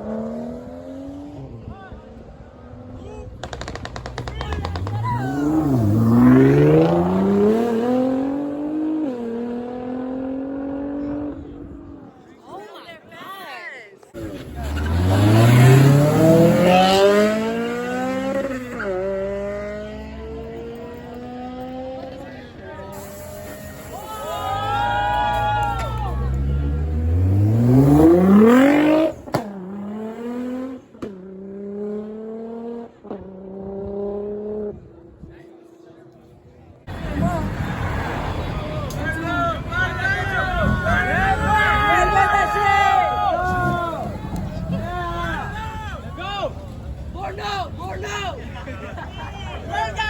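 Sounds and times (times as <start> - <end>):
car accelerating with loud exhaust: 0.0 - 12.1, 14.2 - 35.7, 36.8 - 50.0.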